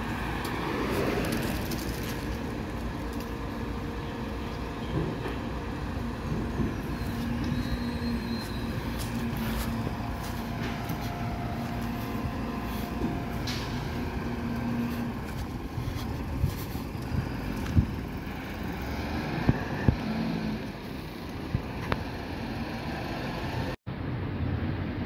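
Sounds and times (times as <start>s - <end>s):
diesel truck engine idling: 0.0s - 23.8s.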